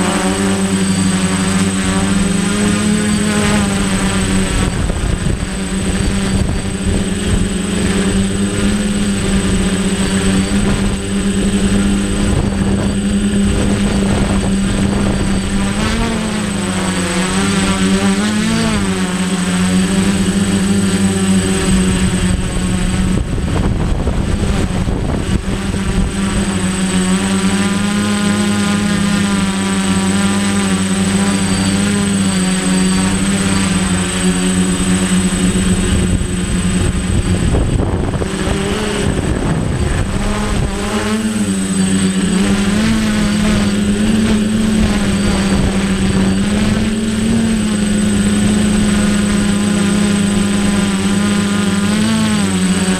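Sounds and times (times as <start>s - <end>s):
wind buffeting microphone: 0.0s - 19.0s, 19.8s - 29.2s, 30.2s - 51.9s
drone motors buzzing: 0.0s - 52.9s.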